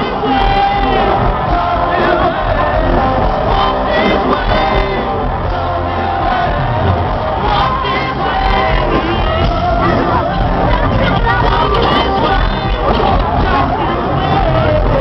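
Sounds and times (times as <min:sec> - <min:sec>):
crowd shouting and whooping: 0:00.0 - 0:15.0
live concert music: 0:00.0 - 0:15.0.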